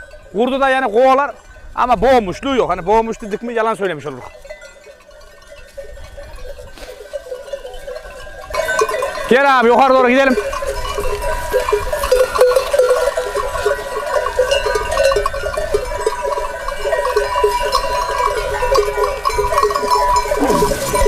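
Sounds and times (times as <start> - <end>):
livestock bells clanking: 0.0 - 21.0
steady bell ringing tone: 3.2 - 21.0.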